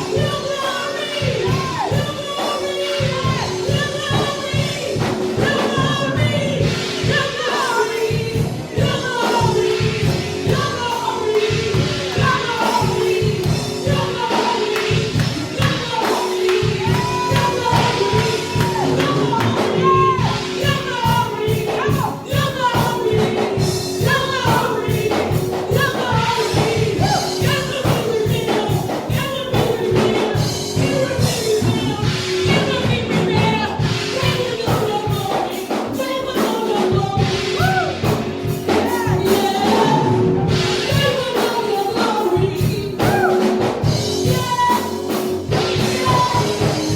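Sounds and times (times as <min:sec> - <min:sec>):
choir singing gospel music: 0:00.0 - 0:46.9.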